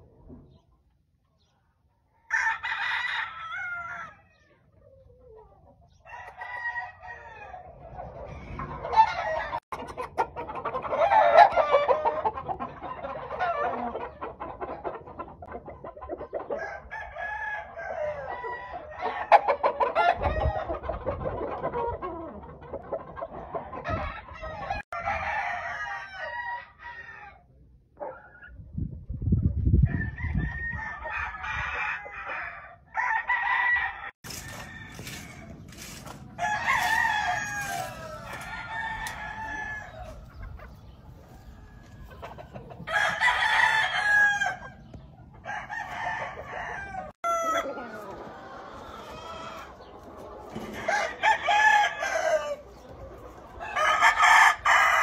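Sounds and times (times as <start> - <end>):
roosters crowing and clucking: 0.0 - 55.0.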